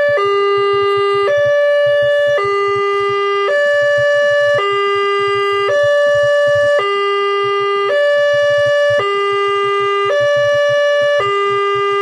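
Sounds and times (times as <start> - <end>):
fast low pulsing: 0.0 - 12.0
level crossing two-tone alarm: 0.0 - 12.0.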